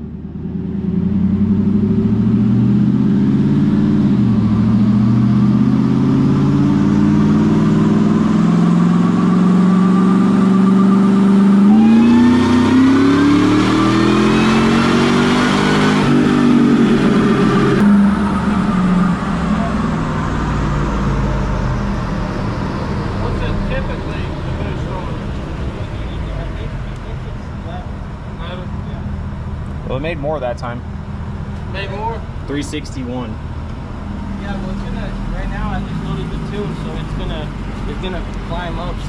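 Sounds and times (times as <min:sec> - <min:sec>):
supercharger whine: 0:00.0 - 0:39.0
car engine revving on dyno: 0:00.4 - 0:28.9, 0:33.9 - 0:39.0.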